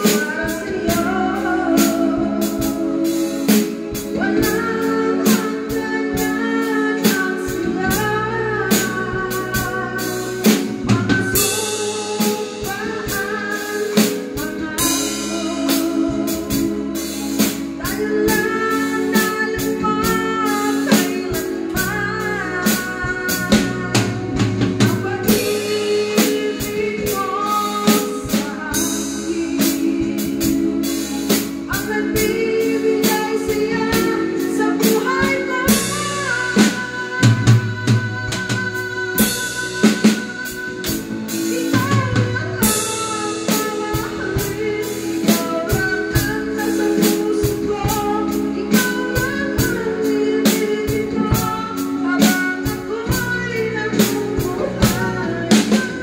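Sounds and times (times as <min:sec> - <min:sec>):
drum kit beat: 0:00.0 - 0:56.0
sustained instrumental chords: 0:00.0 - 0:56.0
woman singing: 0:00.0 - 0:56.0.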